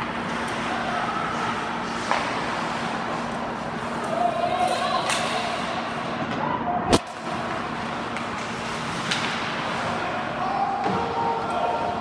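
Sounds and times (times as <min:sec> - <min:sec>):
ice hockey rink din: 0:00.0 - 0:05.4, 0:07.1 - 0:12.0.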